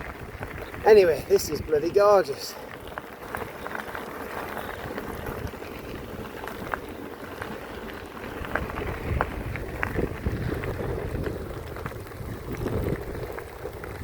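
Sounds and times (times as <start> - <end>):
bicycle tyres crunching on track: 0.0 - 14.0.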